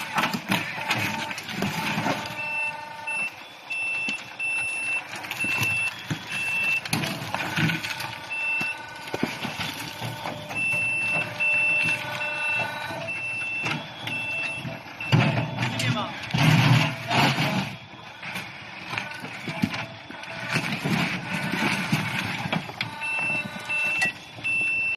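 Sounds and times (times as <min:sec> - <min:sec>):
loader running low: 0:00.0 - 0:24.9
reversing alarm beeping: 0:00.0 - 0:24.9.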